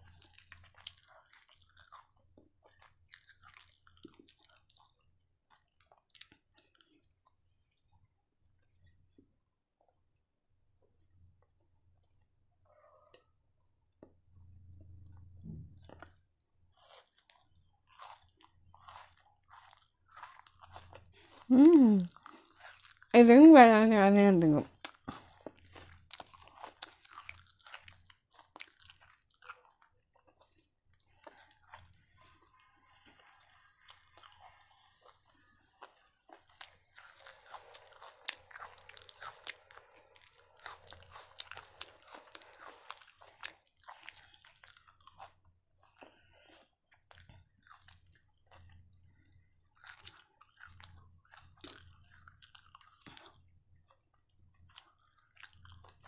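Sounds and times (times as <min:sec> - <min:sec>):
person chewing food: 0:00.0 - 0:08.2, 0:15.8 - 0:23.1, 0:24.6 - 0:56.0.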